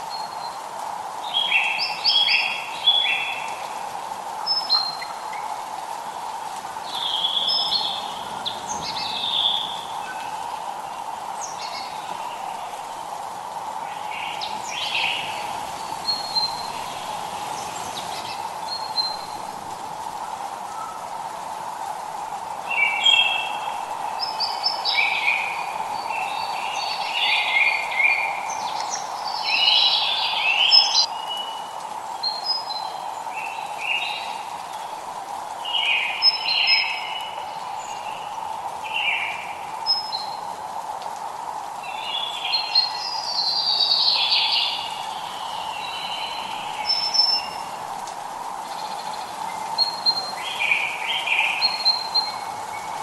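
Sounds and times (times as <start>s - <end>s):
light rain hiss: 0.0s - 53.0s
songbirds singing and chirping: 0.0s - 53.0s.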